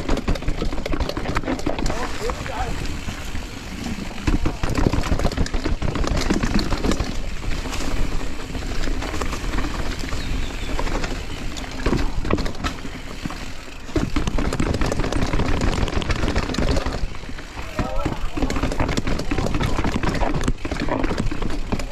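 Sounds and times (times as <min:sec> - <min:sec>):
bike tyres clattering over bumps: 0:00.0 - 0:21.9
mountain bike rushing downhill: 0:00.0 - 0:21.9.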